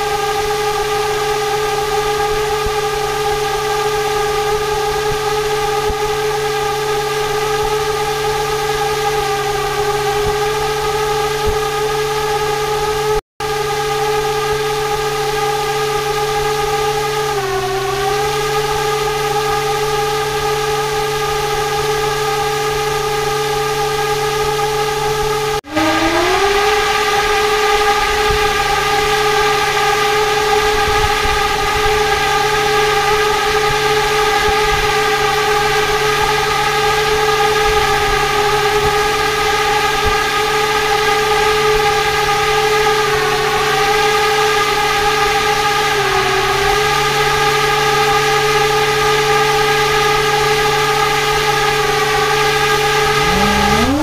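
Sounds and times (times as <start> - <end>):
electric motor whine: 0.0 - 54.0.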